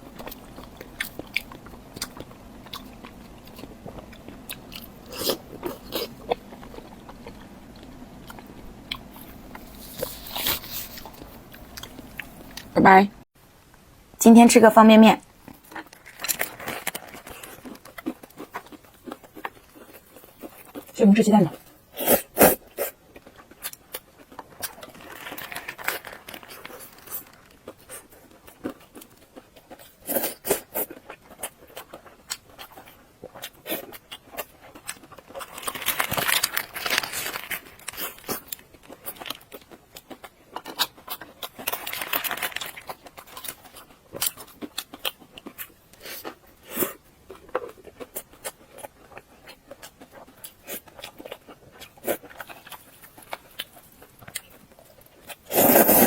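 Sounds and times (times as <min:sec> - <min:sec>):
noodles crackling and crunching: 0:00.0 - 0:13.0, 0:15.3 - 0:56.0.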